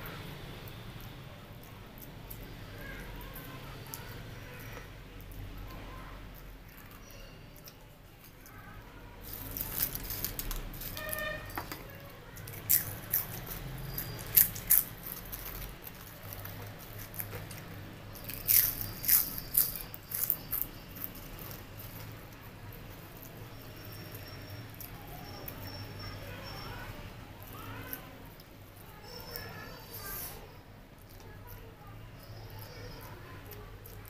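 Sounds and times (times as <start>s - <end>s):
crunching potato chips: 0.7s - 30.3s.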